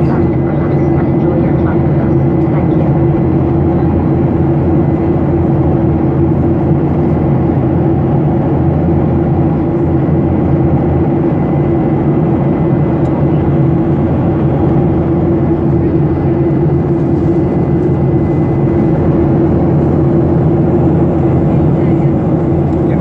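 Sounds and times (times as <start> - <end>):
jet engine drone in cabin: 0.0 - 23.0.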